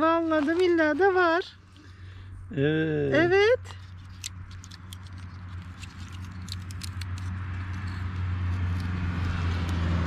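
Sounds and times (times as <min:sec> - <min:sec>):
low engine hum: 0:00.0 - 0:10.0
pine cone scales crackling: 0:00.0 - 0:10.0.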